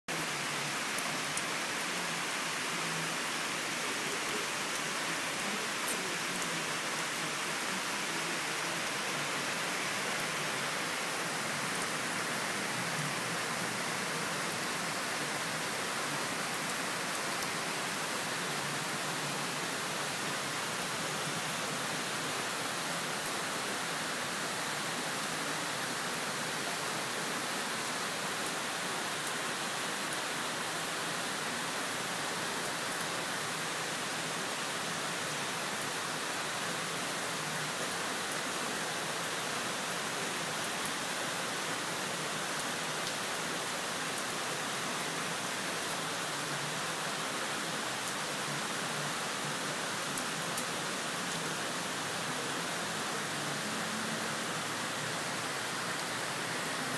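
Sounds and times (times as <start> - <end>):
heavy rain: 0.1 - 56.9.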